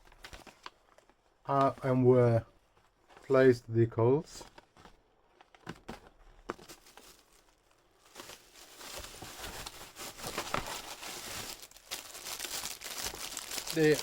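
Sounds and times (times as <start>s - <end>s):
packaging crinkling and rustling: 0.0s - 2.0s, 4.4s - 14.0s.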